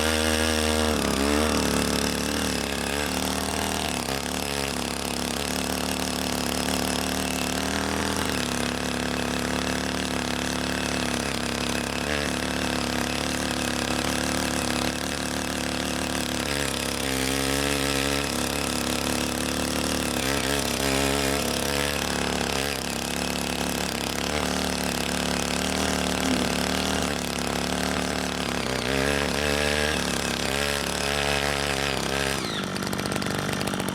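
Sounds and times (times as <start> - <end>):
tiller engine running: 0.0 - 33.9.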